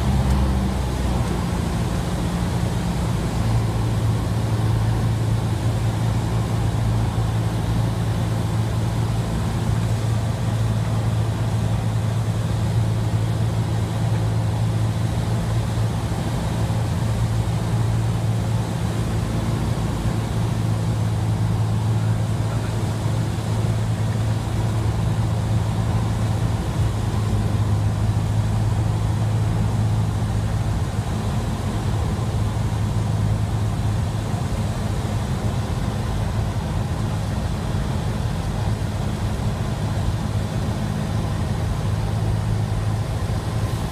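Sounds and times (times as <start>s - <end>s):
propeller plane engine droning: 0.0s - 43.9s.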